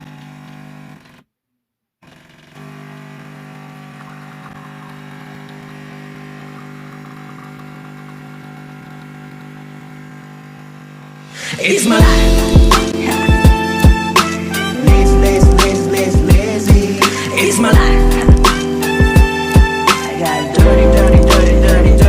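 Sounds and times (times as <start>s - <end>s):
machine hum with low buzz: 2.0s - 11.4s, 12.0s - 22.0s.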